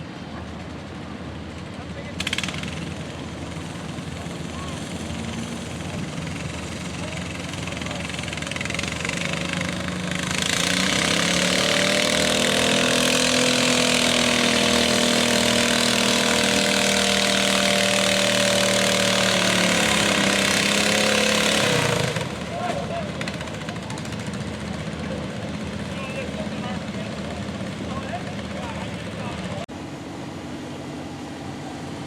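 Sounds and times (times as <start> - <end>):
engine revving: 2.2 - 29.7.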